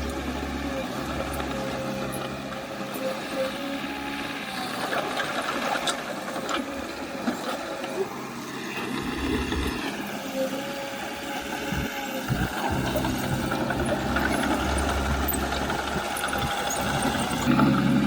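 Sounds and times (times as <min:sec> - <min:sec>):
heavy machine engine clattering: 0:00.0 - 0:10.7, 0:11.4 - 0:18.0.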